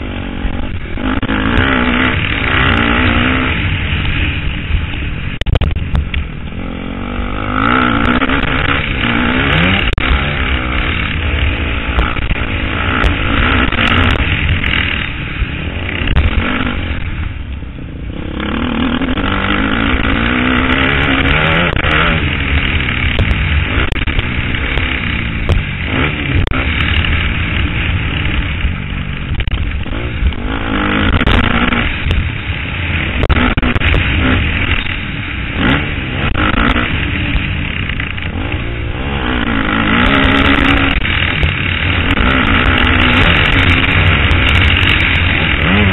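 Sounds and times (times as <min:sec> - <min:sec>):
motocross engine revving: 0:00.0 - 0:05.7, 0:06.5 - 0:17.2, 0:18.1 - 0:45.9
wind rumble on microphone: 0:00.0 - 0:45.9.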